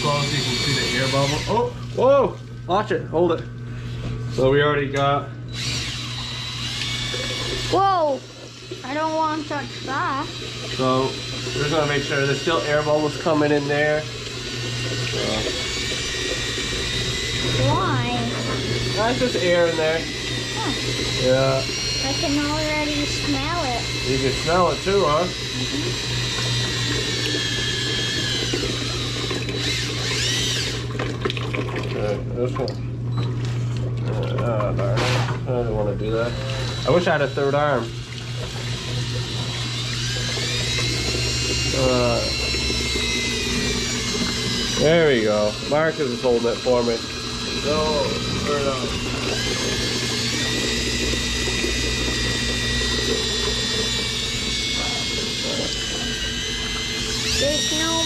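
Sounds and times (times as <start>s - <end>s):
cordless drill motor whine: 0.0s - 2.1s, 5.4s - 31.2s, 33.1s - 58.0s
water running into plastic bucket: 0.0s - 58.0s.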